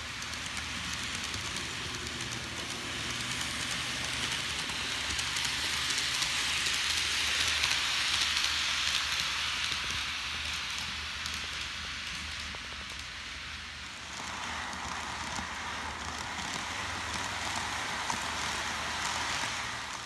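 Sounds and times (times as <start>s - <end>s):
faint rail clicks: 0.0s - 20.0s
model train wheels and motor hiss: 0.0s - 20.0s.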